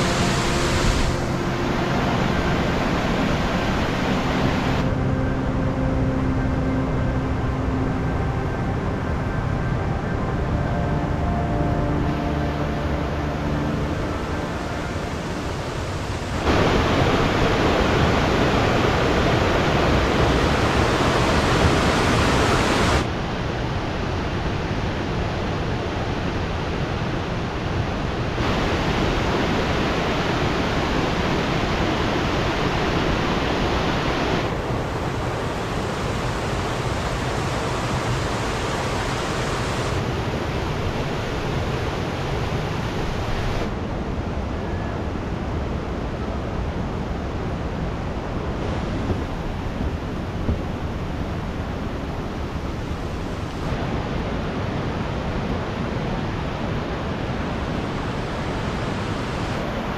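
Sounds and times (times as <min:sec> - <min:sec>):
rushing stream and waterfalls: 0:00.0 - 0:59.9.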